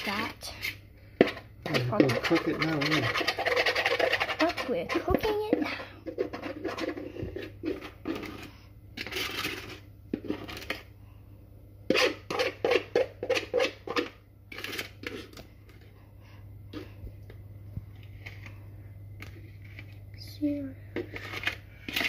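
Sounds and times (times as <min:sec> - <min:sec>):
utensil scraping: 0:00.4 - 0:10.9, 0:11.9 - 0:15.9, 0:18.0 - 0:22.0.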